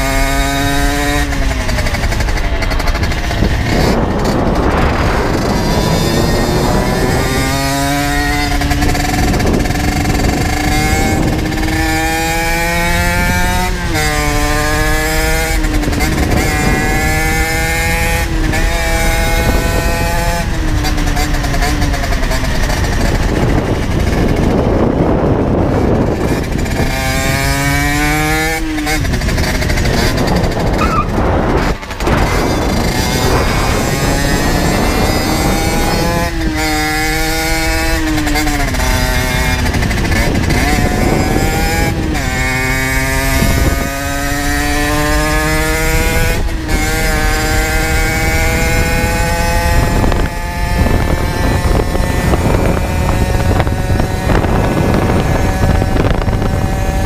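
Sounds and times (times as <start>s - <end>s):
two-stroke engine accelerating: 0.0s - 57.0s
wind rush: 0.0s - 57.0s.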